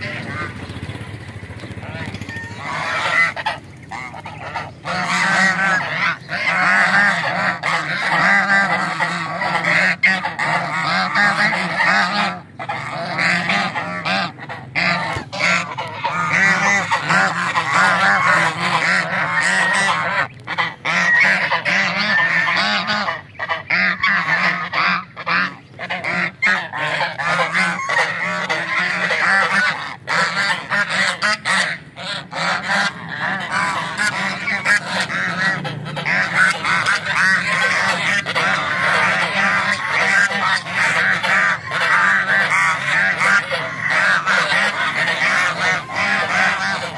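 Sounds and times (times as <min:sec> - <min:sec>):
geese honking and cackling: 0:00.0 - 0:46.9.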